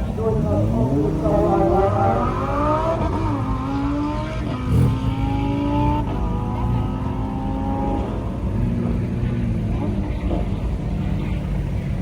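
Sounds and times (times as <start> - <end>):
sports car engine pulling away: 0.0 - 12.0.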